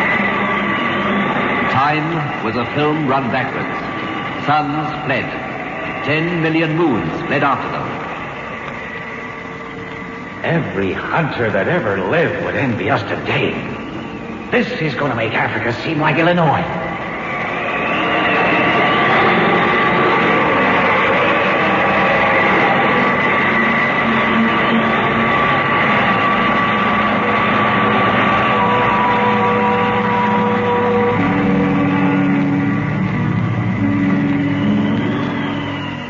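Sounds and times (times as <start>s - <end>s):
electronic time machine noise: 0.0s - 36.0s.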